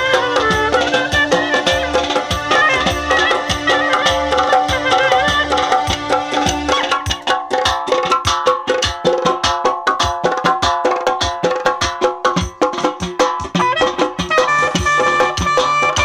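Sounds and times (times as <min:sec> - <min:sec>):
hand drum beating: 0:00.0 - 0:16.0
small kettle drums with sticks: 0:00.0 - 0:16.0.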